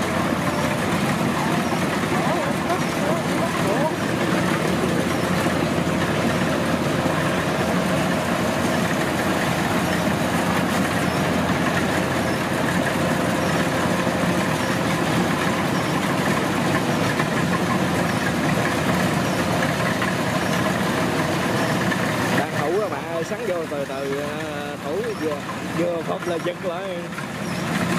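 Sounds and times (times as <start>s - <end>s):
combine harvester diesel engine: 0.0s - 27.9s.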